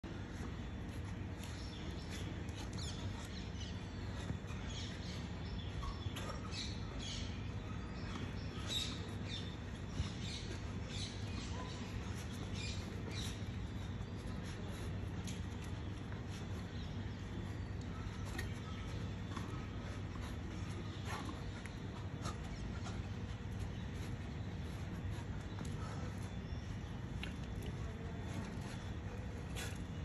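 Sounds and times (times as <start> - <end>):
birds chirping: 0.0 - 30.0
low background hum: 0.0 - 30.0.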